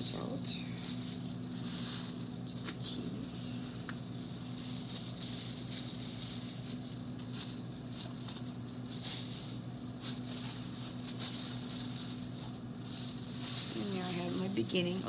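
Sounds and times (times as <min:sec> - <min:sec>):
low room hum: 0:00.0 - 0:15.0
plastic gloves crinkling: 0:00.0 - 0:15.0.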